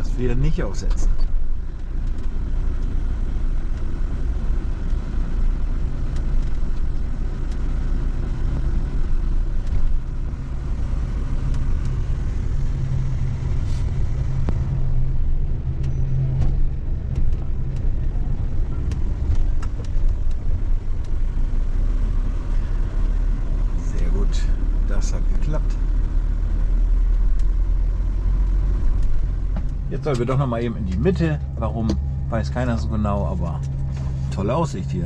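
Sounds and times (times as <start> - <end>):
motorhome engine rumbling: 0.0 - 35.0.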